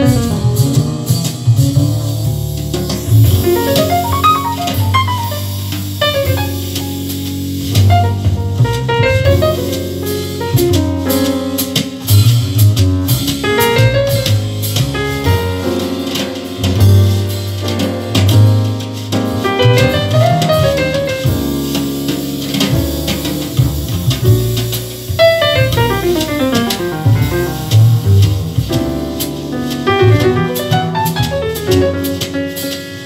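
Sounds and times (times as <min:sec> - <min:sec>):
instrumental jazz music: 0:00.0 - 0:33.0.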